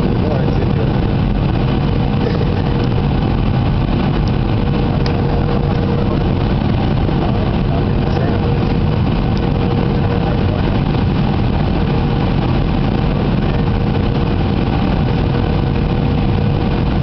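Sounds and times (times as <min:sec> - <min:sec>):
faint steady hum: 0:00.0 - 0:17.0
jet engine and rushing airflow: 0:00.0 - 0:17.0.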